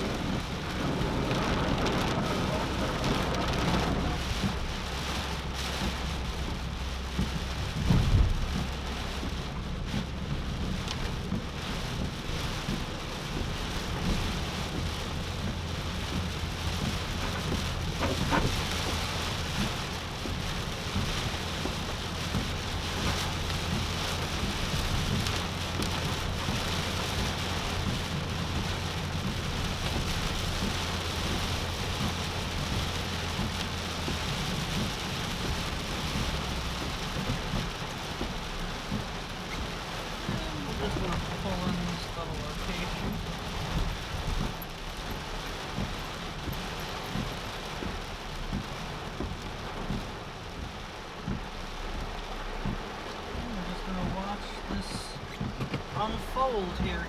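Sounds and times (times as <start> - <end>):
continuous low rumble: 0.0 - 57.0
heavy rain pelting a car: 0.0 - 57.0.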